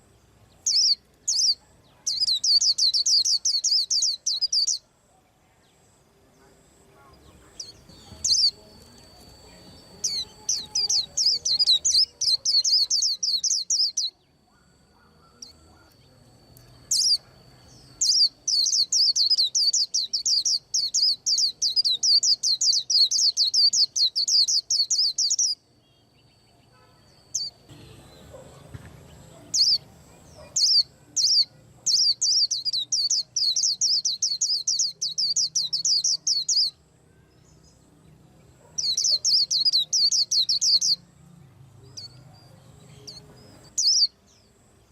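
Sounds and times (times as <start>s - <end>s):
small songbird chirping: 0.0s - 44.9s.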